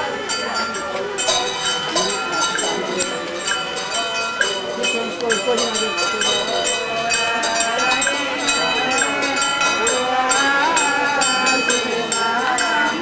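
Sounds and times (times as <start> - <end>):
ringing metal tones: 0.0 - 13.0
sharp percussion strikes: 0.0 - 13.0
voices chanting: 0.0 - 13.0.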